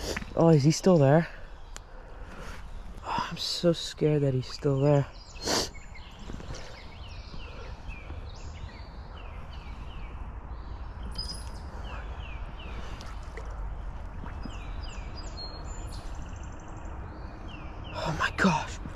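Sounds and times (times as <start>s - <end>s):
songbird singing: 0.0s - 18.9s.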